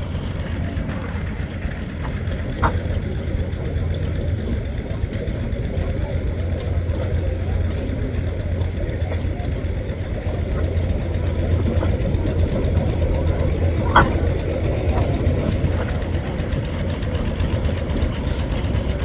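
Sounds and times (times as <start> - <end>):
engine running with low rumble: 0.0 - 19.0.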